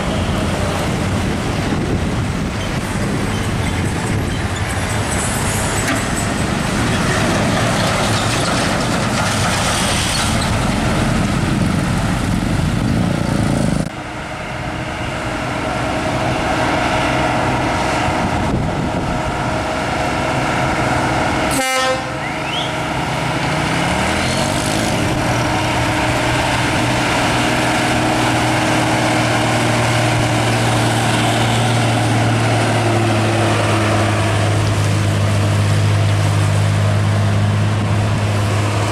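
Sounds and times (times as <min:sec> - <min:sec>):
diesel truck engines under load: 0:00.0 - 0:38.9.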